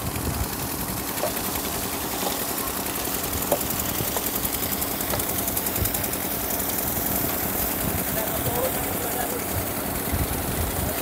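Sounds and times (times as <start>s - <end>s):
engine running with knocking: 0.0s - 11.0s.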